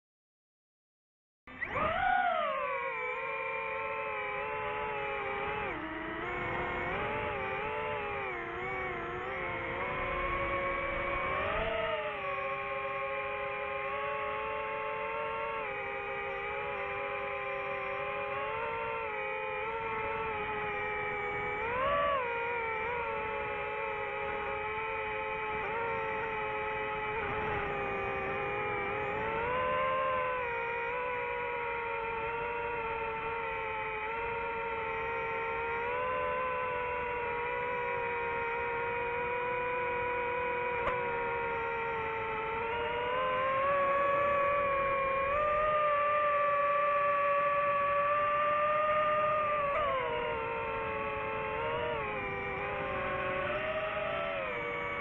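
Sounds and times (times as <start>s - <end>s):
drone motors whining: 1.5s - 55.0s.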